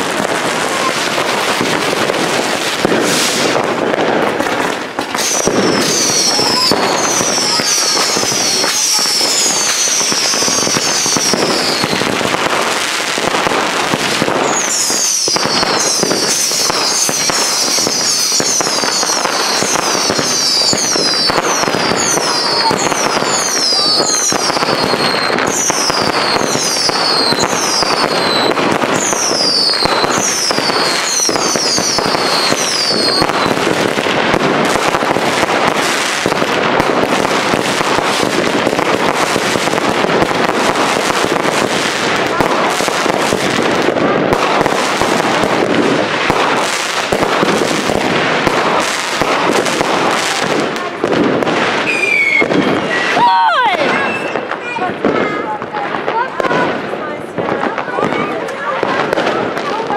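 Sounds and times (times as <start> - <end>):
fireworks crackling: 0.0 - 59.9
fireworks cracks and pops: 0.0 - 59.9
whistling fireworks: 0.0 - 59.9.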